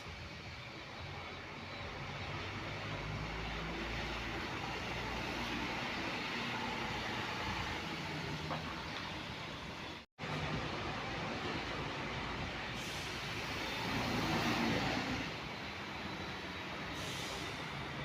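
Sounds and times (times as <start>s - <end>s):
bus engine rumbling past: 0.0s - 18.0s.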